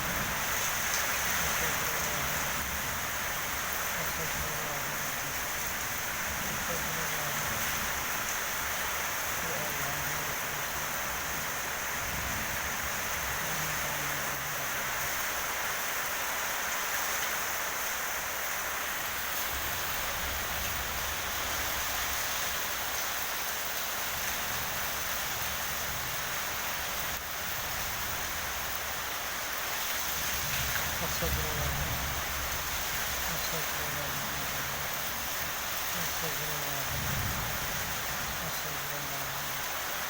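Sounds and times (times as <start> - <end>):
heavy rain in strong wind: 0.0 - 40.0.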